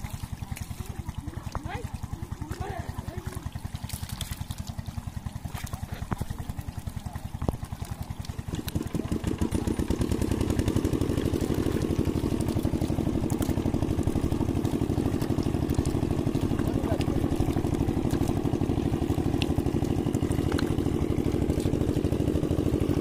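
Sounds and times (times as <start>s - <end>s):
small engine puttering: 0.0s - 23.0s.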